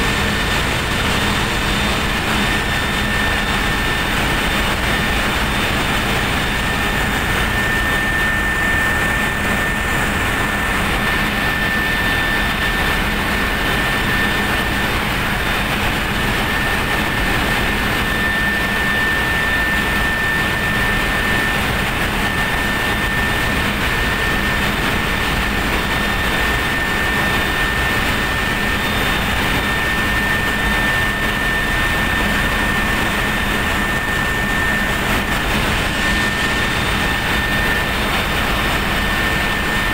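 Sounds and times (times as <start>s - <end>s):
engine room roar: 0.0s - 39.9s
high machinery whine: 0.0s - 39.9s.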